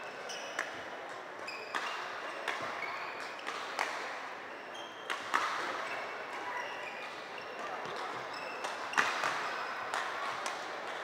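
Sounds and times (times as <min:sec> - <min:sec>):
court shoes squeaking: 0:00.0 - 0:03.9, 0:04.5 - 0:10.1.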